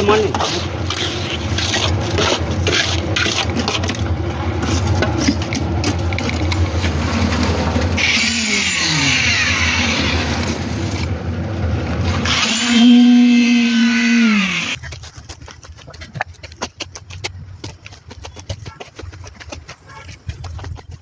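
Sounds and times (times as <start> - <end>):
engine hum: 0.0 - 20.8.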